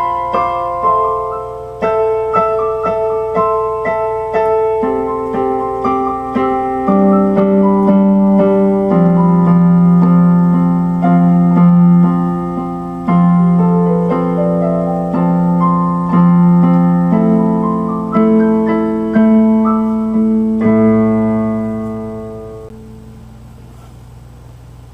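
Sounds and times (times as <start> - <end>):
slow piano chords and melody: 0.0 - 23.8.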